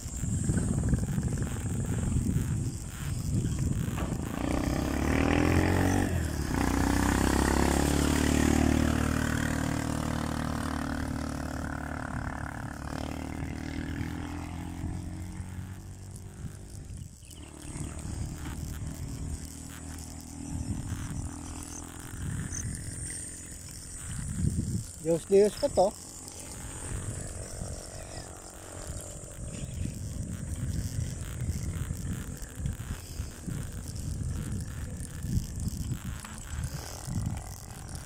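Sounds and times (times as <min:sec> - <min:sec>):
vehicle engine running: 0:00.0 - 0:38.0
wind and road noise: 0:00.0 - 0:38.0.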